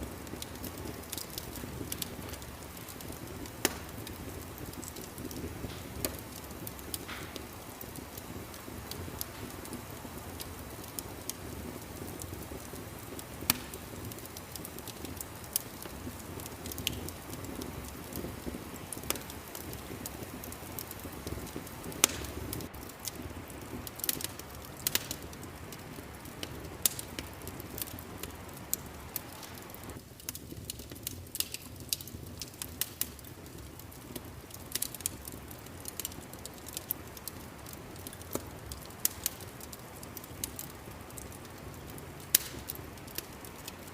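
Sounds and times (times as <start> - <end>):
low rumble of burning: 0.0 - 43.9
wood fire pops and snaps: 0.0 - 43.9.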